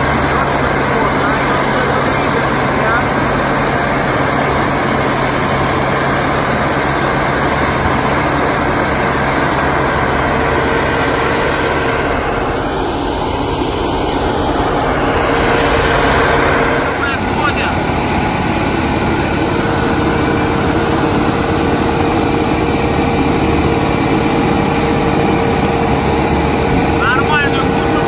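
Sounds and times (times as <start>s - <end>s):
mulcher engine and rotor: 0.0s - 28.0s.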